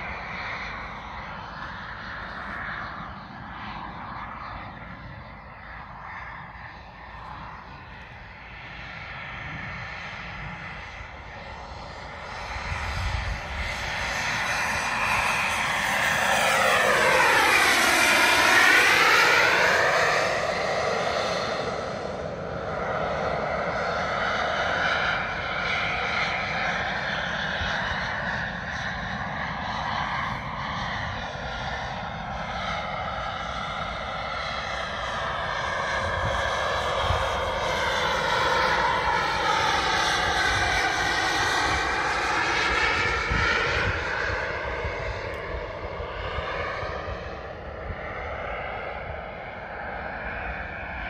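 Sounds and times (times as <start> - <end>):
model jet turbines running: 0.0 - 51.0.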